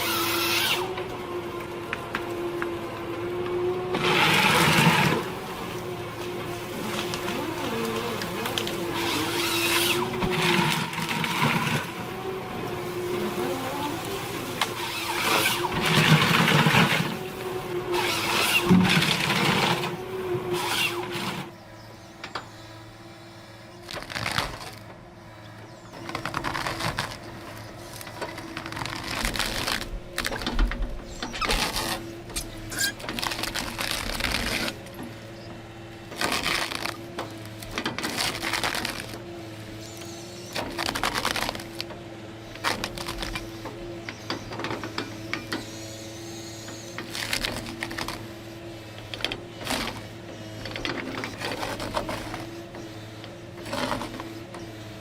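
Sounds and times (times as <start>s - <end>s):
heavy forestry machine running: 0.0s - 55.0s.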